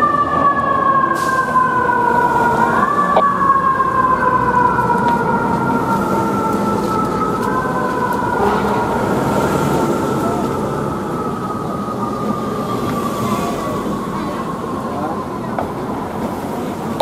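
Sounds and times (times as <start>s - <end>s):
fire engine siren: 0.0s - 17.0s
truck engine rumble: 0.0s - 17.0s.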